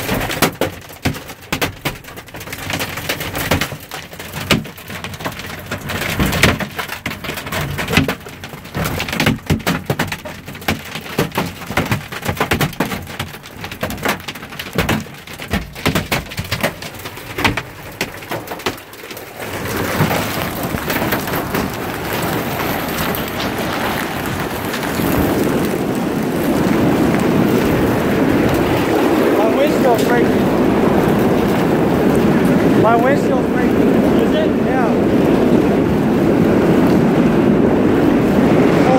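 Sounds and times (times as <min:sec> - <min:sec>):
downpour of hail and rain: 0:00.0 - 0:38.9
hailstones striking hard surfaces: 0:00.0 - 0:38.9.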